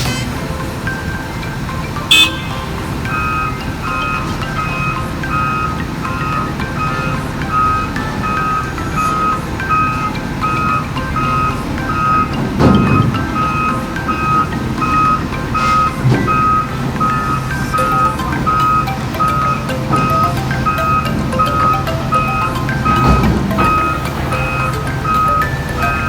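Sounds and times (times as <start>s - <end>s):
diesel engine rumbling: 0.0s - 26.0s
reversing alarm beeping: 1.1s - 26.0s.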